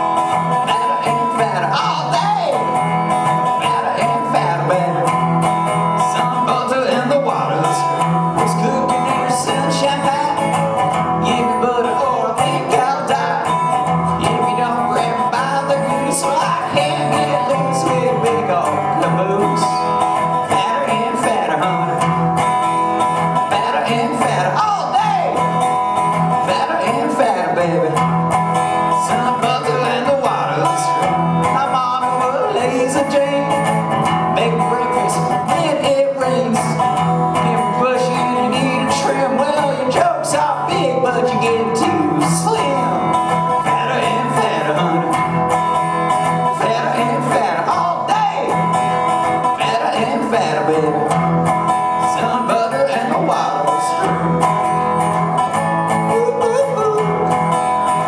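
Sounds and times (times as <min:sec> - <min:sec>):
resonator guitar playing: 0:00.0 - 0:58.0.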